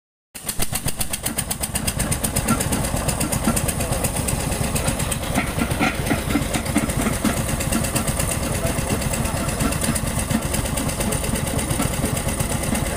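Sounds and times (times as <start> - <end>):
diesel engine knocking: 0.4 - 12.9.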